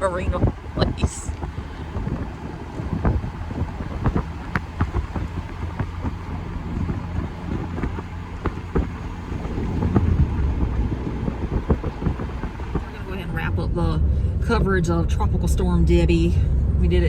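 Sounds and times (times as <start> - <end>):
car road rumble from inside: 0.0 - 17.0.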